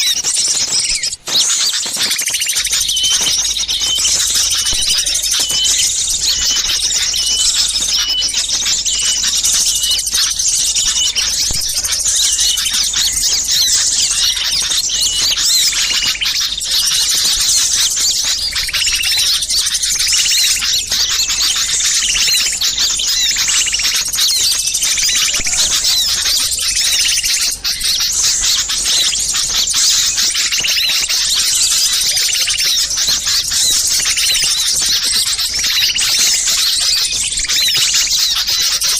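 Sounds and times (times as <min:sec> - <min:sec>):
songbirds chattering and calling: 0:00.0 - 0:38.9.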